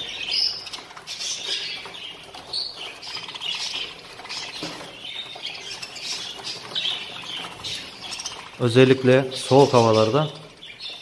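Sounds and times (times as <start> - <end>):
budgerigars chattering: 0.0 - 11.0.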